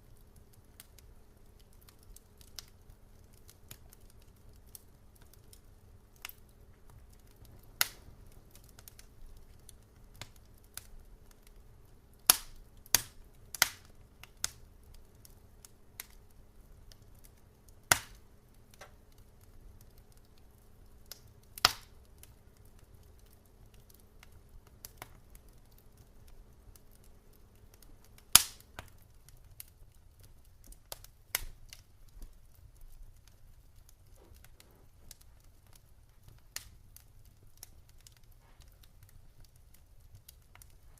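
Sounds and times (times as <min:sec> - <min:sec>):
faint low rumble: 0:00.0 - 0:40.9
faint steady hum: 0:00.0 - 0:40.9
wood fire crackling and popping: 0:00.0 - 0:40.9.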